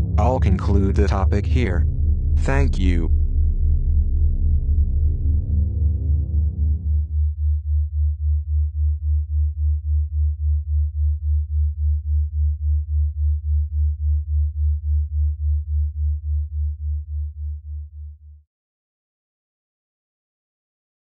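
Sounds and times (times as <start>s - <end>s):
low synthesized pulsing tone: 0.0s - 17.3s.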